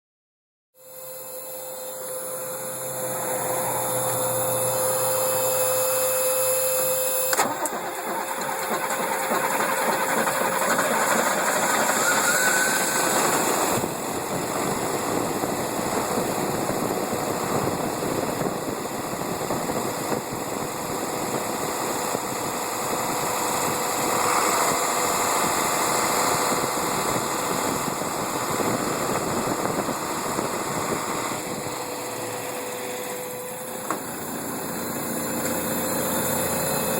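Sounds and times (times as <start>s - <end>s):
truck engine starting and running: 2.4s - 36.9s.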